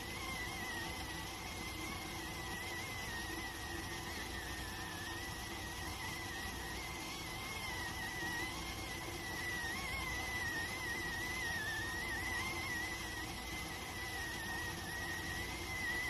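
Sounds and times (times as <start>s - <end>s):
rice cooker steam whistle: 0.0s - 16.0s.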